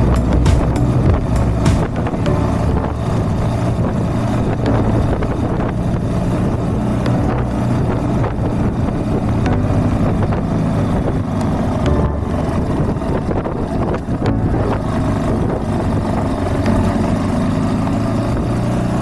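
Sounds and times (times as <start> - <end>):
motorcycle engine cruising: 0.0 - 19.0
wind noise on microphone: 0.0 - 19.0.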